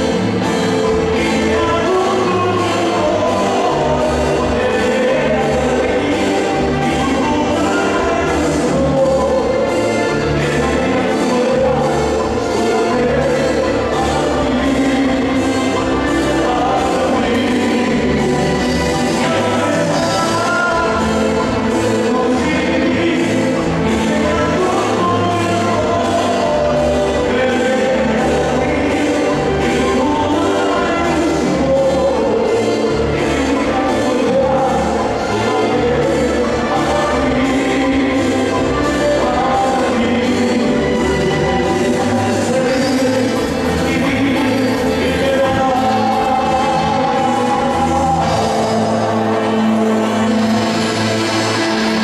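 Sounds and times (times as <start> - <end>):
lead vocal singing: 0.0 - 52.0
live band playing: 0.0 - 52.0.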